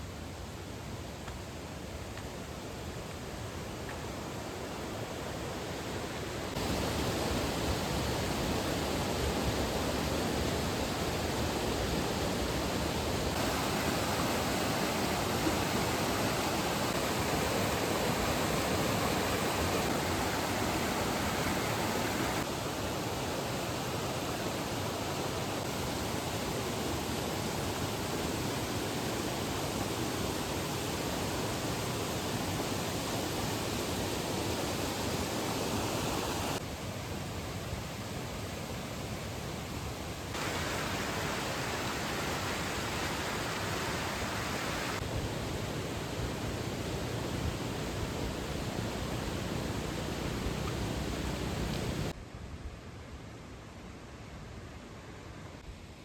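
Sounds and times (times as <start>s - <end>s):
mountain stream rushing over rocks: 2.9s - 52.2s.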